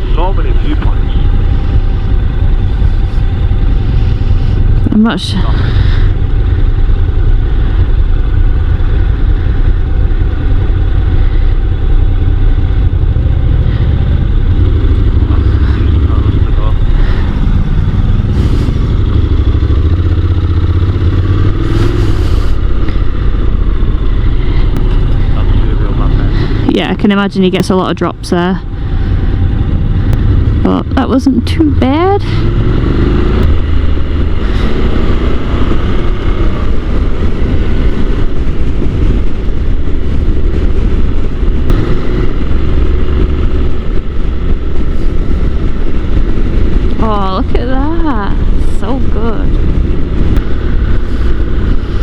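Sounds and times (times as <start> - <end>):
heavy wind noise: 0.0 - 52.0
motorcycle engine riding: 0.0 - 52.0.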